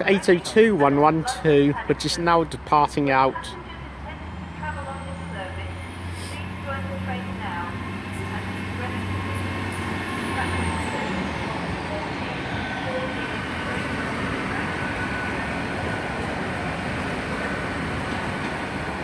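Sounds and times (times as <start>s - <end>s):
train engines and wheels rumbling: 0.0s - 19.0s.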